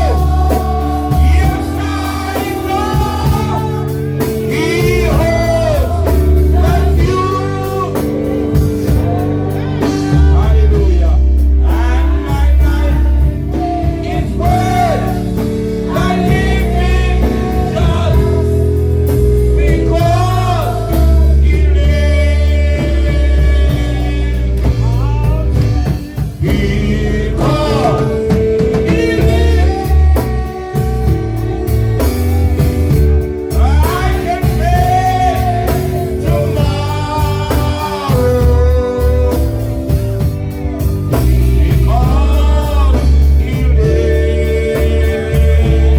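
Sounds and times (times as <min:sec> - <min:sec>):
band with heavy bass: 0:00.0 - 0:45.9
sung melody: 0:00.0 - 0:45.9.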